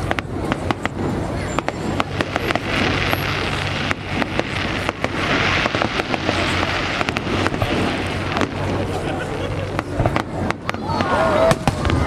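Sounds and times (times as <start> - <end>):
fireworks crackling: 0.0 - 12.0
fireworks popping and banging: 0.0 - 12.0.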